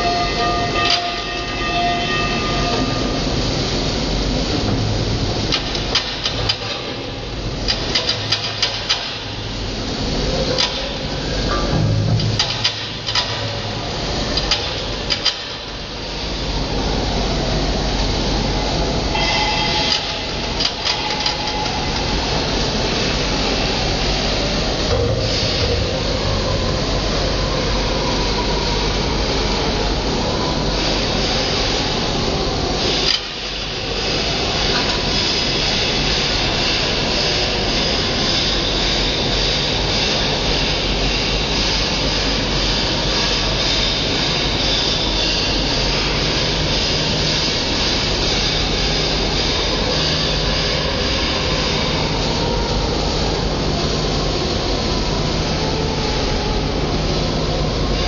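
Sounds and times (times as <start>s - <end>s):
loud machinery noise: 0.0s - 58.0s.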